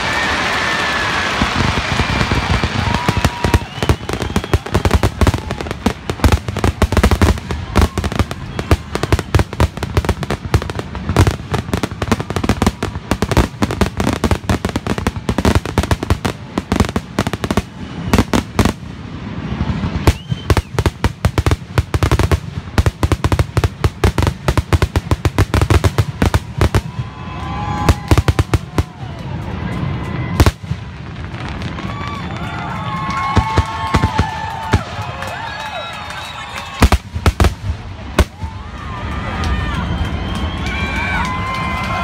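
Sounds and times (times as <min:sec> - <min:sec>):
fireworks whistling: 0:00.0 - 0:38.6
fireworks bangs: 0:00.0 - 0:42.0.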